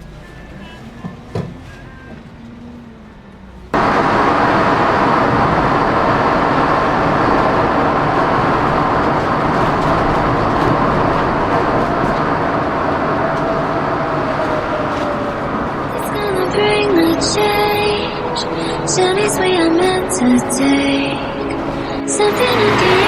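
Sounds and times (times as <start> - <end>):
bus engine and road noise: 0.0 - 23.0
faint whine: 3.8 - 23.0.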